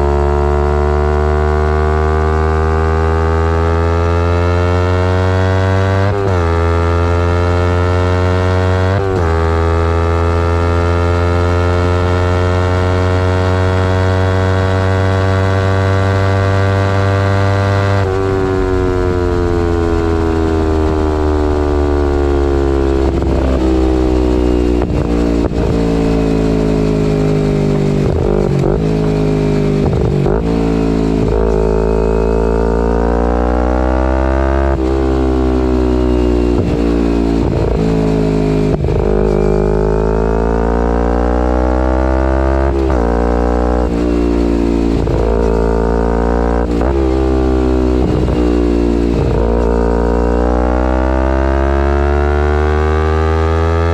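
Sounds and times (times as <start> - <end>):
motorcycle engine revving: 0.0 - 53.9
wind and road rumble: 4.7 - 53.9.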